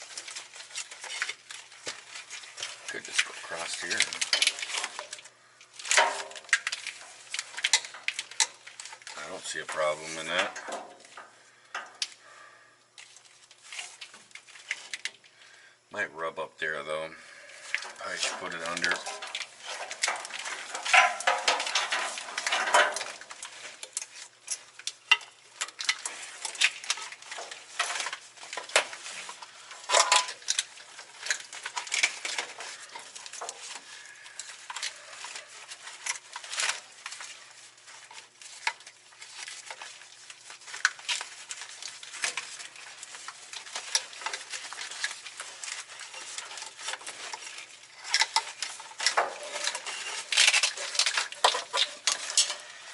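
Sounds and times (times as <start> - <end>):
wiring harness clicks and rustles: 0.0 - 12.2, 13.0 - 15.4, 17.6 - 52.9.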